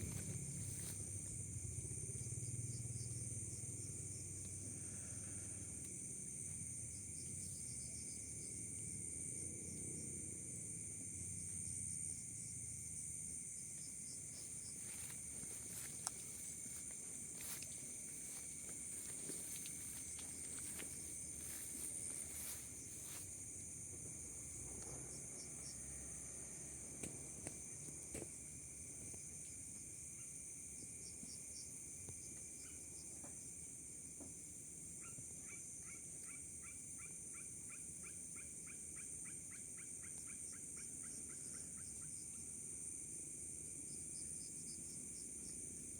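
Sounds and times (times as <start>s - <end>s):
insects chirring: 0.0s - 45.9s
low insect drone: 0.0s - 45.9s.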